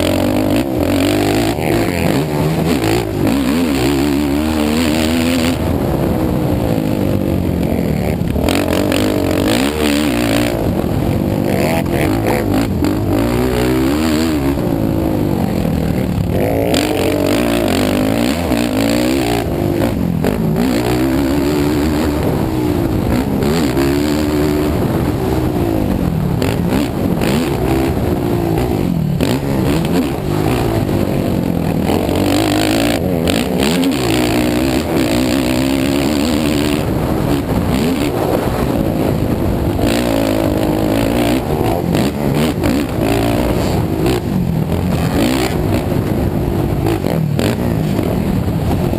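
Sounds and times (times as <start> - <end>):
quad engine revving: 0.0 - 48.9
wind rush on microphone: 0.0 - 48.9.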